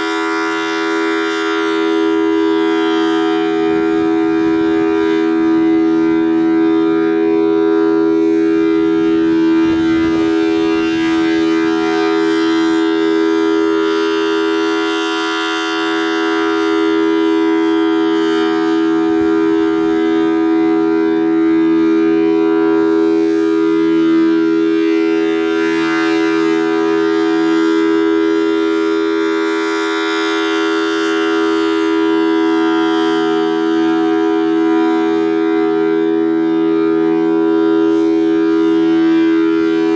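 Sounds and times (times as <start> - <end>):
warning siren two-note chord: 0.0 - 39.9.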